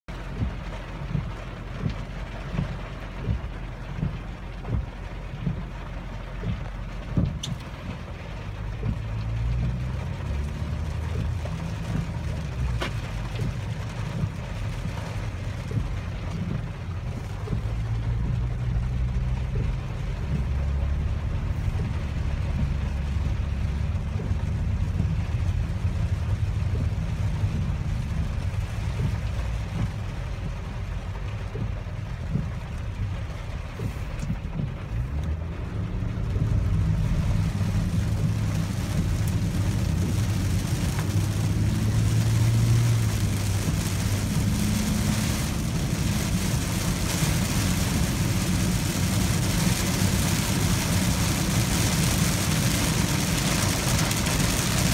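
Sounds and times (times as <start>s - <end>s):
diesel engine running: 0.0s - 54.9s
rain on car roof: 0.0s - 54.9s
regular low thumping: 0.2s - 54.9s.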